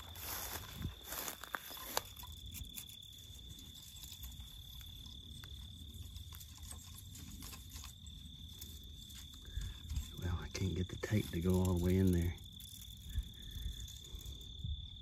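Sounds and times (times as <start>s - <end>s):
dry grass and brush rustling: 0.0s - 15.0s.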